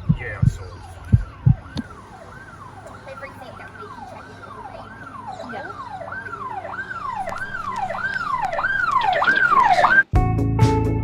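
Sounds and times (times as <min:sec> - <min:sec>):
siren yelping: 0:00.0 - 0:10.1.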